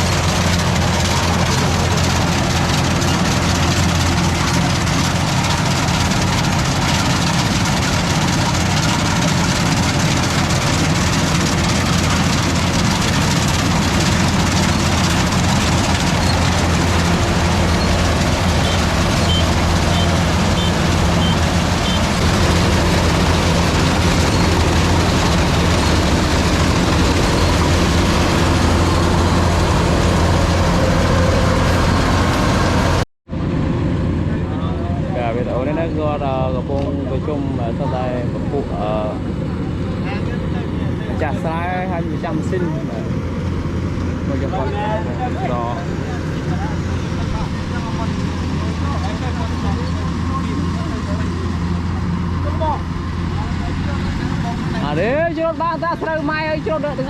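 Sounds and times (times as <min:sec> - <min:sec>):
heavy engine running: 0:00.0 - 0:57.0.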